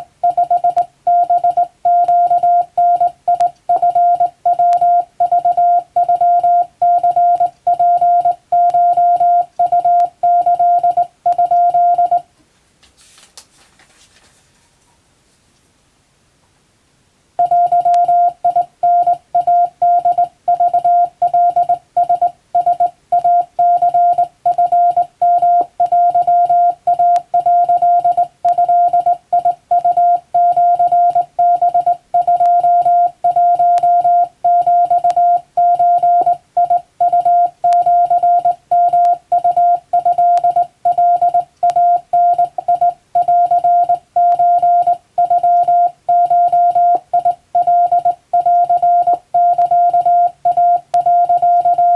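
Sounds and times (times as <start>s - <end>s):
morse code beep tone: 0.0s - 12.3s, 17.4s - 51.9s.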